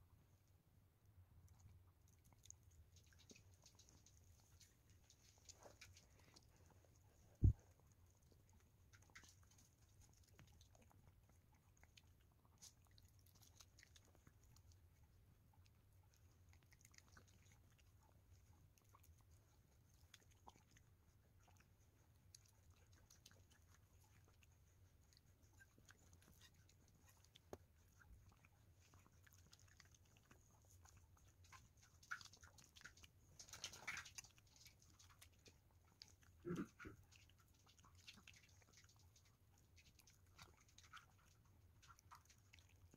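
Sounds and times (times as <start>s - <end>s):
dog licking and chewing: 0.1s - 42.9s.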